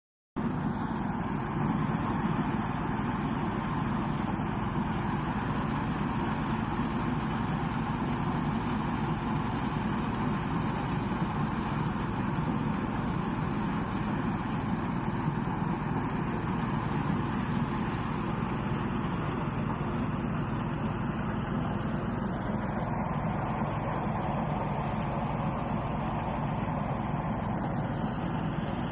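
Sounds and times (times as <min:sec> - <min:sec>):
harvesting machinery running: 0:00.4 - 0:28.9.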